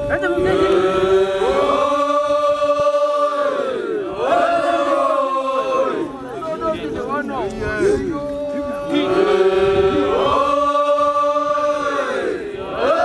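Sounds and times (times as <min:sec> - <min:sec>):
voices chanting together: 0:00.0 - 0:13.0.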